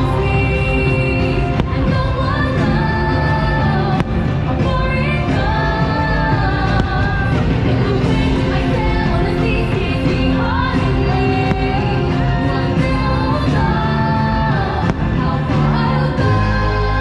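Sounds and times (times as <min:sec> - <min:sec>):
orchestral music with held sung notes: 0:00.0 - 0:17.0.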